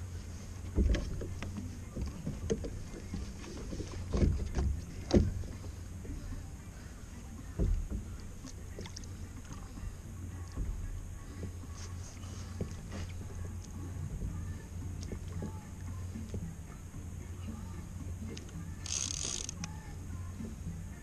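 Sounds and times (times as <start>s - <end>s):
water sloshing against hull: 0.0s - 21.0s.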